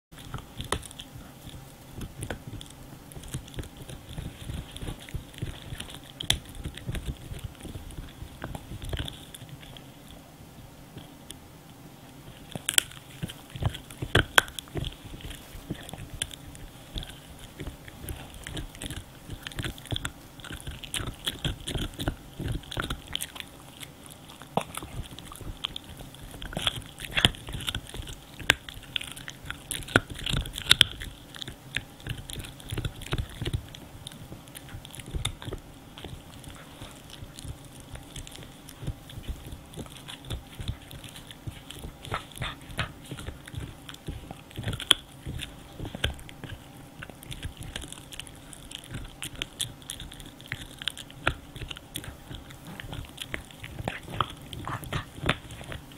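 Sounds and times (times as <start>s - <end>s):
dog chewing hard chew: 0.1s - 55.9s.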